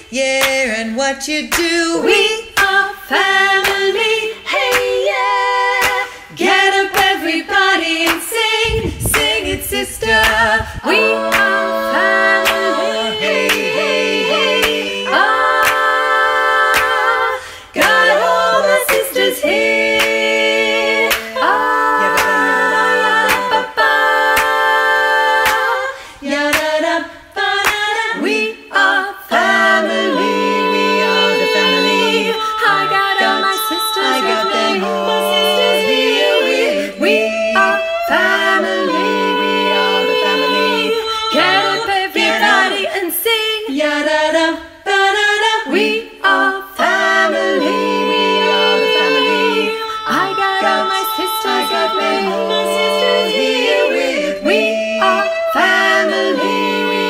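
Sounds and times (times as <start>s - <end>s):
women singing in harmony: 0.0s - 57.0s.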